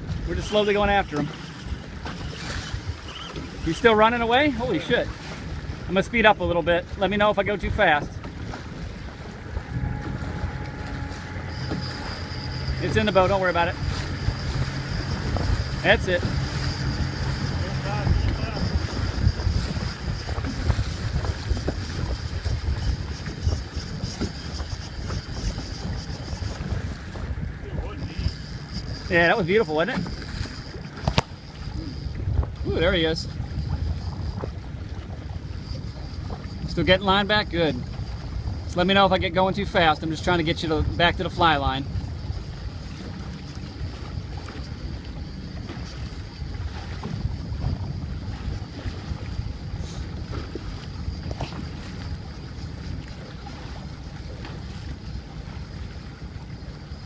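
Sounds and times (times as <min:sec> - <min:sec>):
boat motor: 0:00.0 - 0:57.0
steady high whine: 0:00.0 - 0:57.0
water slapping against hull: 0:00.0 - 0:57.0
wind buffeting microphone: 0:00.0 - 0:57.0.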